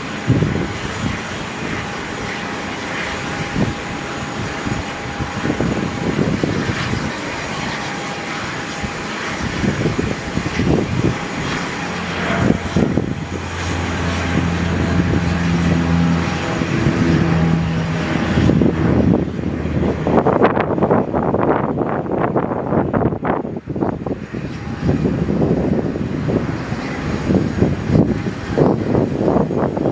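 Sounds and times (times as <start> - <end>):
aircraft engines rumbling: 0.0 - 29.9
steady low hum: 0.0 - 29.9.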